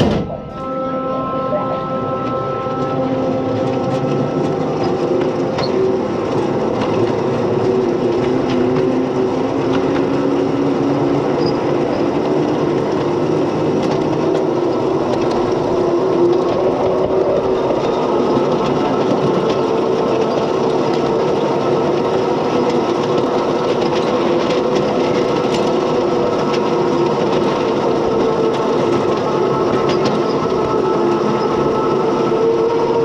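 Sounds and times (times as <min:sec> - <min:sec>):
locomotive motor hum: 0:00.0 - 0:33.0
wheels clicking on rails: 0:02.1 - 0:33.0.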